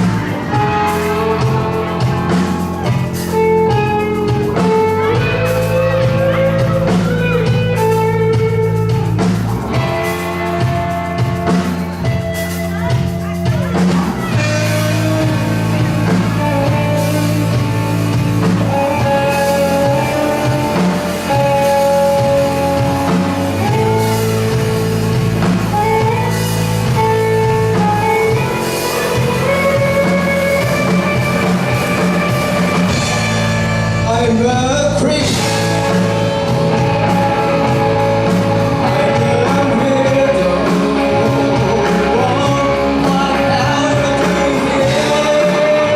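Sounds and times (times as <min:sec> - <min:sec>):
bass guitar: 0:00.0 - 0:45.9
drum kit: 0:00.0 - 0:45.9
electric guitar: 0:00.0 - 0:45.9
person singing: 0:00.0 - 0:45.9.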